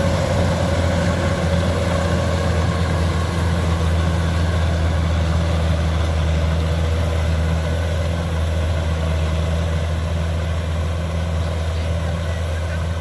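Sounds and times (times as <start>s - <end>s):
combine harvester engine droning: 0.0s - 13.0s.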